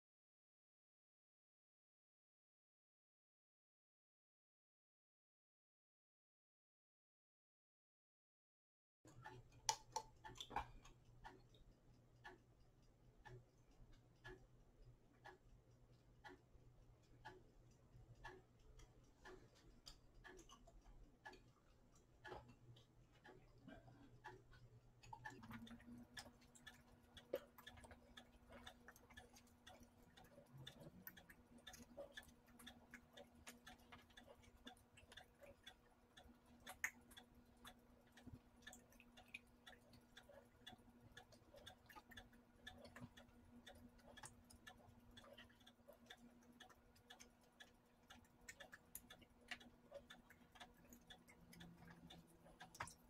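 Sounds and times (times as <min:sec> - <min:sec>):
small clicks and taps: 0:09.1 - 0:14.5, 0:15.1 - 0:53.0
faint steady hum: 0:09.1 - 0:53.0.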